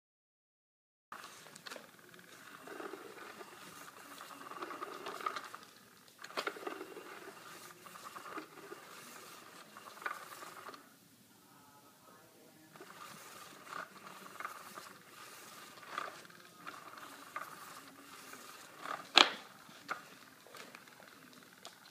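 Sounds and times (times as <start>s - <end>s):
cat scratching fabric: 1.2s - 10.8s, 12.7s - 21.6s
small motor whirring: 1.2s - 10.9s, 12.7s - 21.9s.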